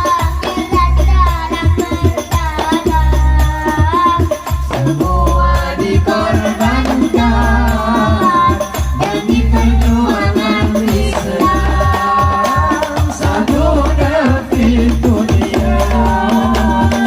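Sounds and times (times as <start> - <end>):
frame drums: 0.0 - 17.0.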